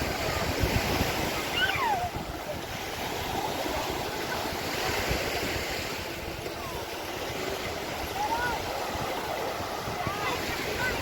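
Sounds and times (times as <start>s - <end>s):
sea waves breaking: 0.0s - 11.0s
wind on microphone: 0.0s - 11.0s.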